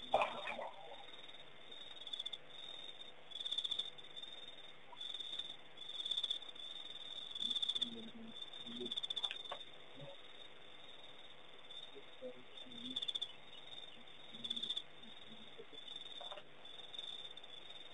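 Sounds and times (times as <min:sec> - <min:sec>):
night insects trilling: 0:00.0 - 0:17.9.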